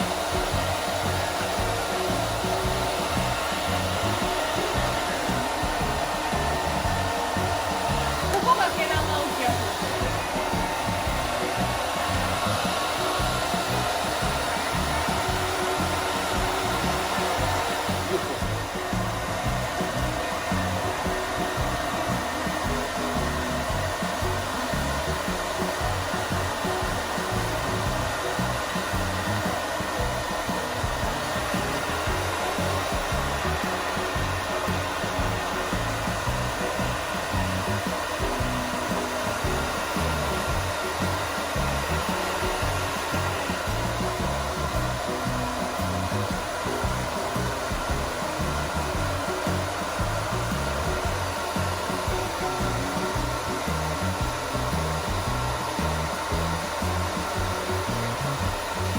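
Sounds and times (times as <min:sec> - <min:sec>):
hair dryer running: 0:00.0 - 0:58.9.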